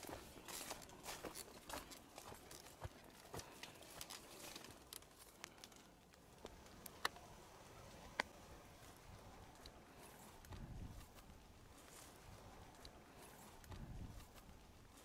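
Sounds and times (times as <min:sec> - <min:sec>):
faint footsteps crunching: 0:00.0 - 0:07.2, 0:08.6 - 0:15.0.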